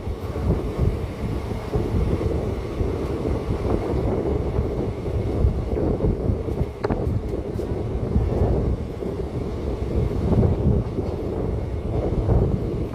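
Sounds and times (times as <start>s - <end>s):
train wheels rumbling on track: 0.0s - 12.9s
wind buffeting microphone: 0.0s - 12.9s.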